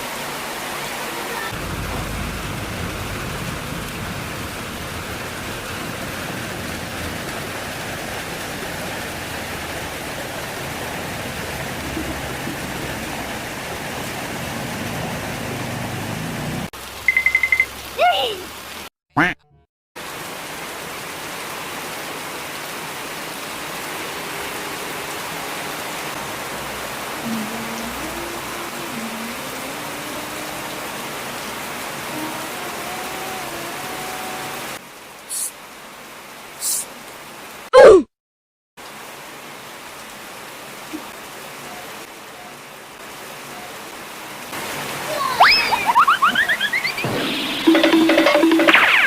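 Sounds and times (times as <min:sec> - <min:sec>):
steady rain falling: 0:00.0 - 0:18.9, 0:20.0 - 0:37.7, 0:38.8 - 0:49.0.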